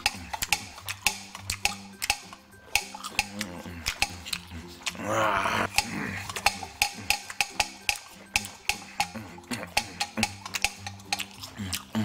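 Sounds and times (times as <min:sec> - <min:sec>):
light background music: 0:00.0 - 0:12.0
munching sound: 0:00.0 - 0:12.0.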